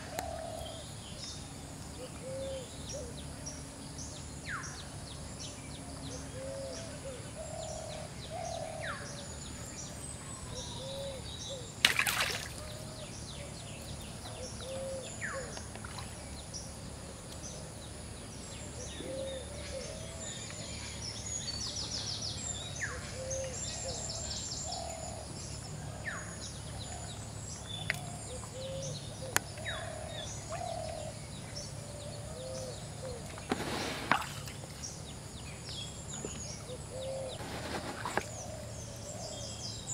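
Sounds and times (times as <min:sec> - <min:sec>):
low arched bird calls: 0:00.0 - 0:39.9
steady low background hum: 0:00.0 - 0:39.9.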